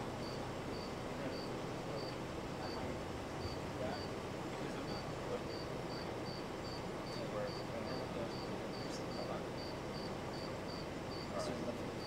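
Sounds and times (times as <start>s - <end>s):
faint background noise: 0.0s - 12.0s
cricket chirping: 0.1s - 2.8s, 3.4s - 4.1s, 4.8s - 12.0s.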